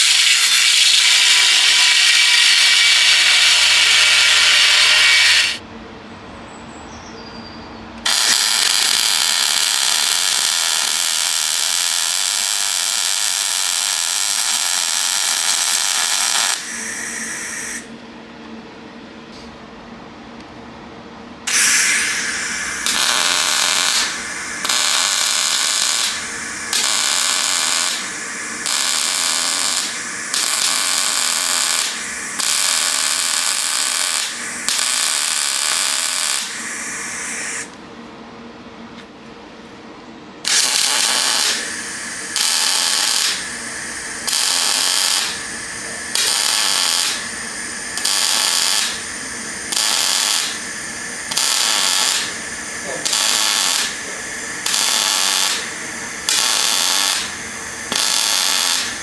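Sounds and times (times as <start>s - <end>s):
electric welder crackling hiss: 0.0s - 5.6s, 8.0s - 18.0s, 21.5s - 37.8s, 40.4s - 59.0s.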